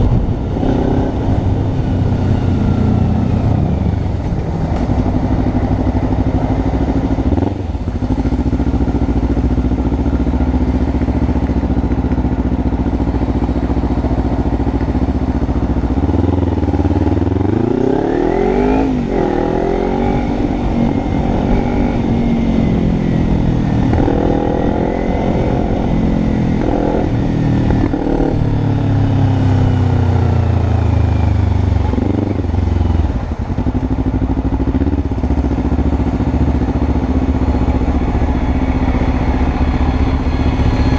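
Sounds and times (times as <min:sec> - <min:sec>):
heavy wind noise: 0:00.0 - 0:10.6, 0:11.2 - 0:40.9
motorcycle engine revving: 0:00.0 - 0:40.9.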